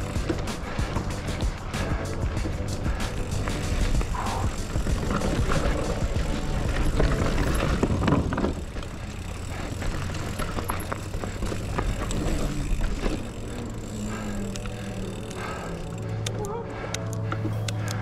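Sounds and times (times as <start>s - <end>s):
bike tyres on loose dirt: 0.0s - 16.2s
bike rattling over bumps: 0.0s - 16.5s.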